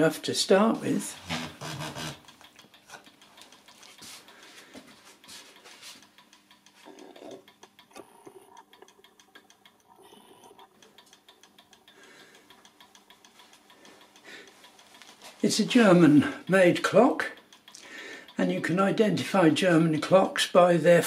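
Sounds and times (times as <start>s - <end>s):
mechanical clock ticking: 0.0s - 21.0s.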